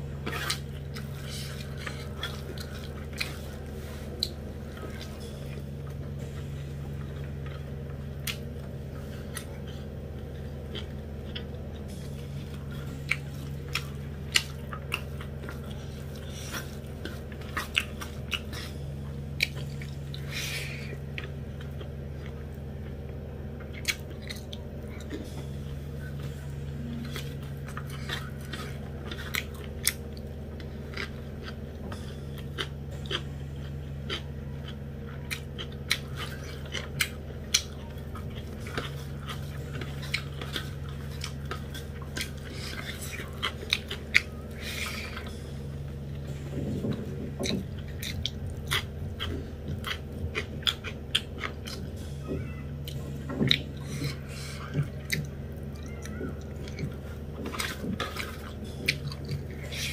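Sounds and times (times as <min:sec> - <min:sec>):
chewing and mouth sounds: 0:00.0 - 0:59.9
steady low hum: 0:00.0 - 0:59.9.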